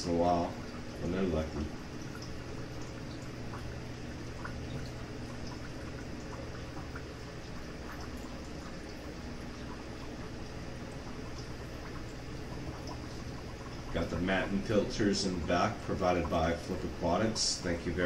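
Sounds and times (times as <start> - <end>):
aquarium filter bubbling: 0.0 - 18.0
steady low hum: 0.0 - 18.0.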